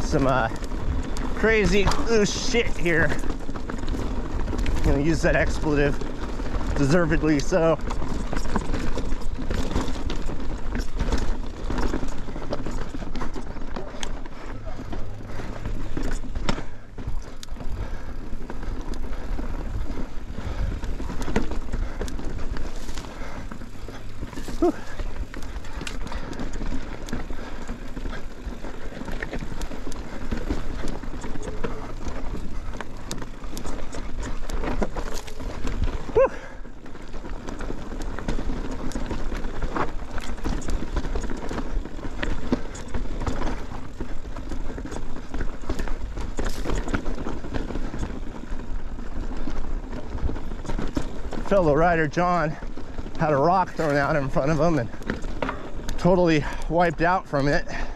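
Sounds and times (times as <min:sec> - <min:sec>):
bike knocks and rattles: 0:00.0 - 0:57.0
tyres crunching on rock and gravel: 0:00.0 - 0:57.9.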